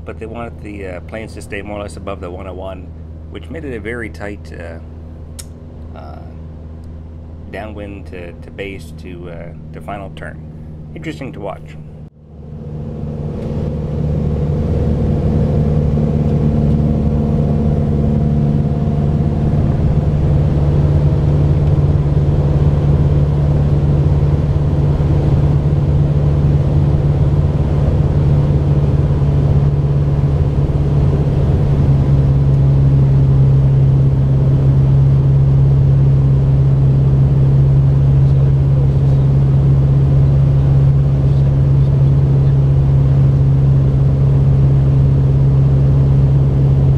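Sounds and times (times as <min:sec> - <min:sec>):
aircraft engine and propeller drone: 0:00.0 - 0:46.9.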